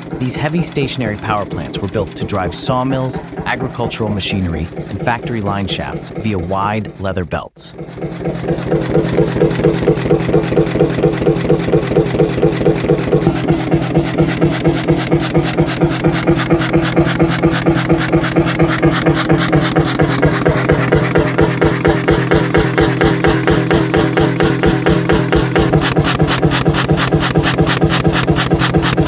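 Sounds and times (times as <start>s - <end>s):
hot bulb engine running: 0.0s - 29.0s.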